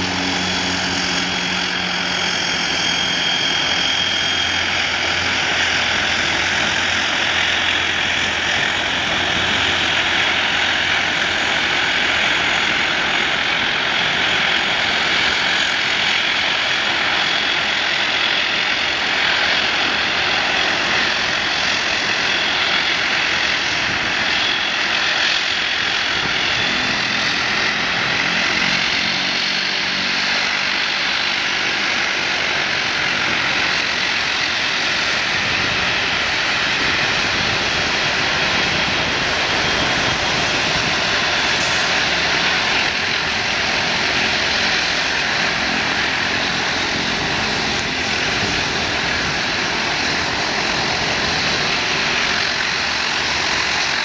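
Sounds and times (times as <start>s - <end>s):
propeller drone: 0.0s - 54.0s
turboprop engine whine: 0.0s - 54.0s.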